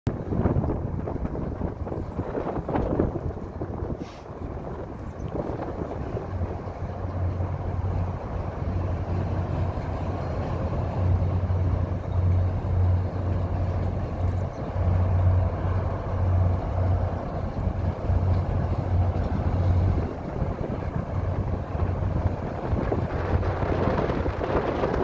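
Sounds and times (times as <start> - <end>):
train rumbling: 0.1 - 25.0
wind buffeting microphone: 0.1 - 25.0.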